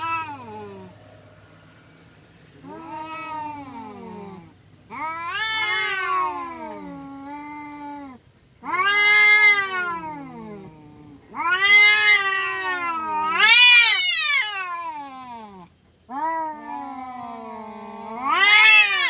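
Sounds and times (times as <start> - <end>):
cats yowling: 0.0 - 1.0, 2.6 - 19.0.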